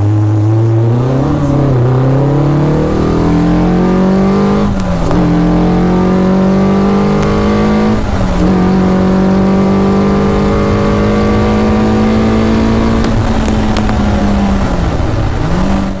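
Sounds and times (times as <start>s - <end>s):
car engine at high revs: 0.0s - 16.0s
wind rumble: 0.7s - 16.0s.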